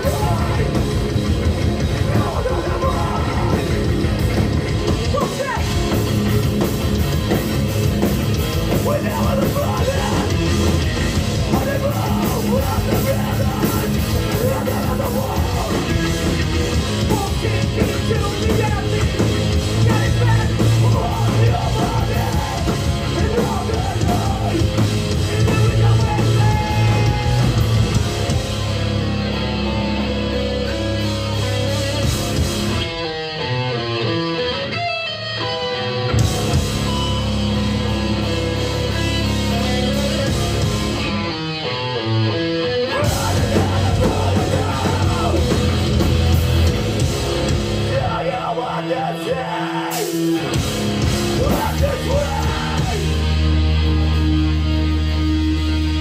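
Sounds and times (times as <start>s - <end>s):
punk band playing live: 0.0s - 56.0s.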